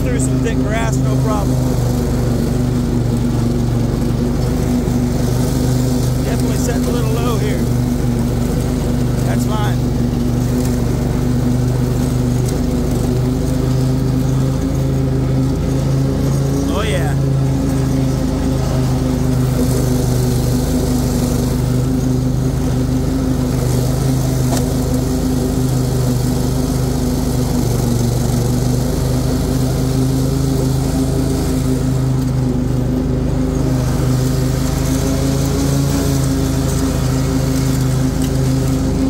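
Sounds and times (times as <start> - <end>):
lawn mower engine mowing grass: 0.0 - 39.0.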